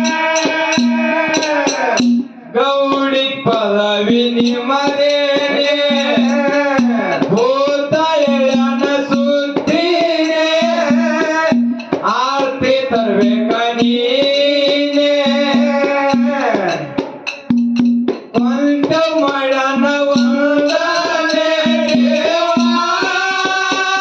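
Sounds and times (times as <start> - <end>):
man singing folk song: 0.0 - 16.8, 18.4 - 24.0
barrel drum beating: 3.3 - 24.0.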